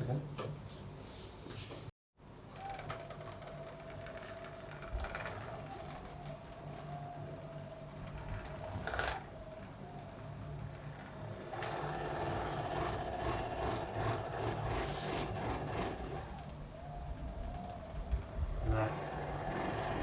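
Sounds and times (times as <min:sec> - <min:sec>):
small motorised device humming: 0:02.5 - 0:20.0.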